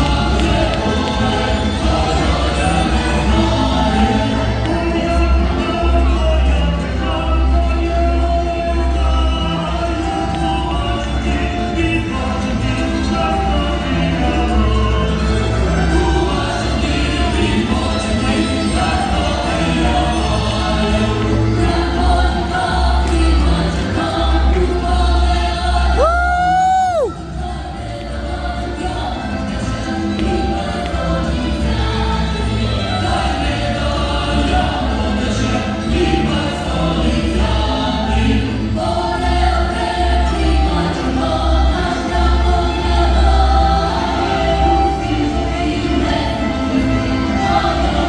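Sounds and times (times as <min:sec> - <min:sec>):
group singing with accompaniment: 0:00.0 - 0:48.0.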